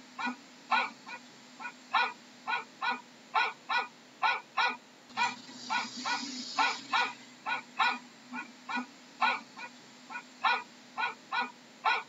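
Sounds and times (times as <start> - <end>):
dog barking: 0.2 - 12.0.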